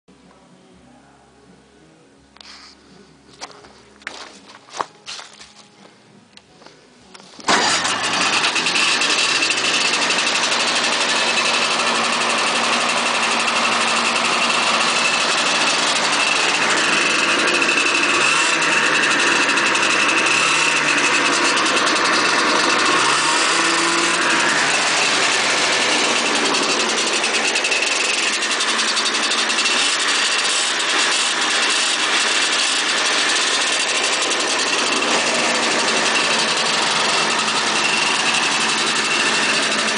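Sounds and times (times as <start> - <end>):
snowmobile engine idling: 7.4 - 39.9.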